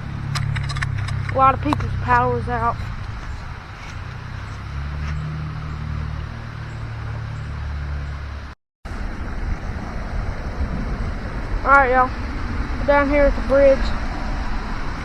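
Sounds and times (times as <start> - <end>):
engine running: 0.0 - 15.0
low rumble: 0.0 - 15.0.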